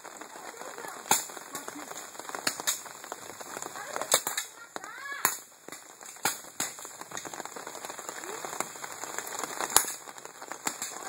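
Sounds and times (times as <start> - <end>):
rain falling hiss: 0.0 - 11.0.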